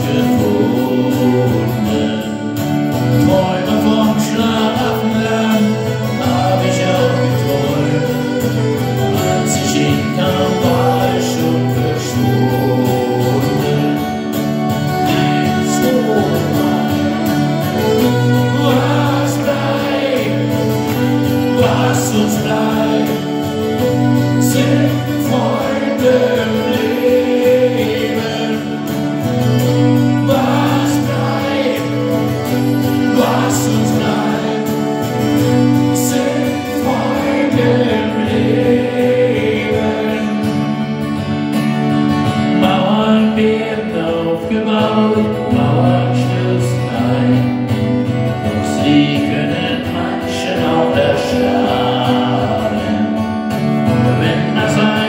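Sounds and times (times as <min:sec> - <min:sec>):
strummed acoustic guitar: 0:00.0 - 0:55.0
violin melody: 0:00.0 - 0:55.0.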